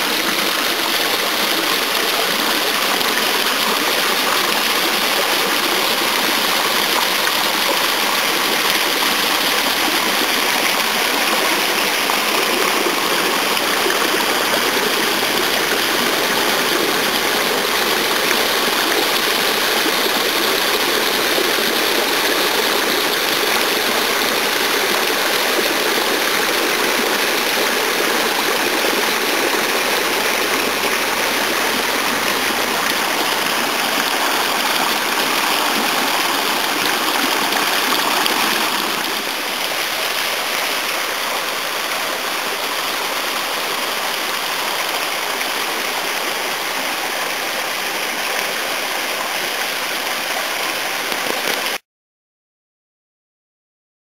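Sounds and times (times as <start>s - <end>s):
fountain water splashing: 0.0s - 51.8s.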